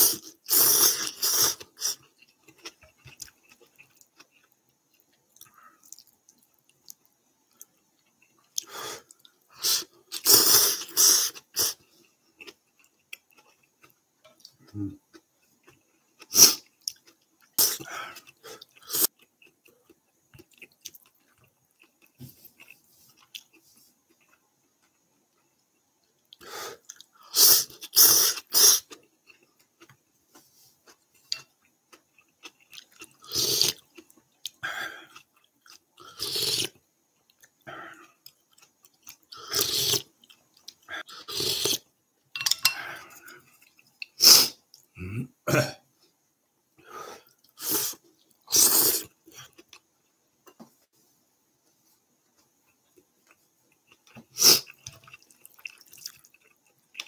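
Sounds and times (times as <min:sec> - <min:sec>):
noodles being slurped and chewed: 0:00.0 - 0:41.9, 0:47.3 - 0:49.9, 0:52.4 - 0:57.0.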